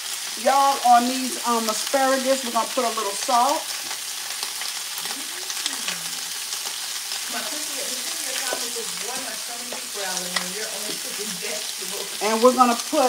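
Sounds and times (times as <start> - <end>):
asparagus sizzling in a frying pan: 0.0 - 13.0.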